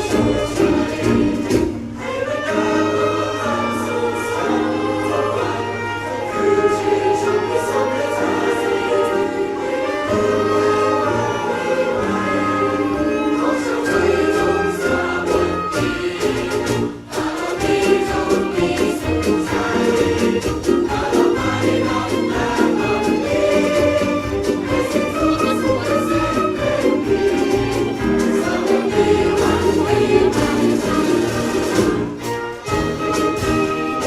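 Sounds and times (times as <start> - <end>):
group of voices singing: 0.0 - 34.0
live band music: 0.0 - 34.0.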